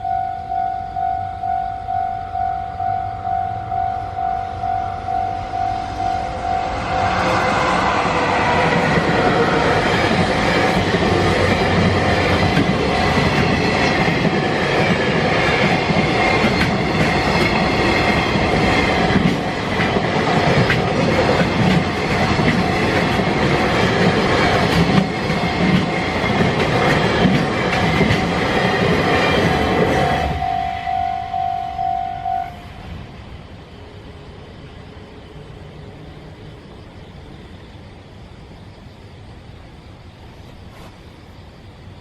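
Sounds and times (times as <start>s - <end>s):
train rumbling past: 0.0s - 42.0s.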